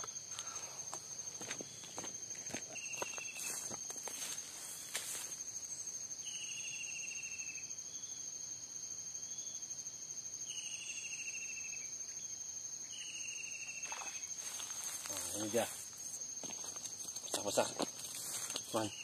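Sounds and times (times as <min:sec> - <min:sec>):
insects trilling: 0:00.0 - 0:19.0
lower pulsed insect call: 0:00.0 - 0:19.0.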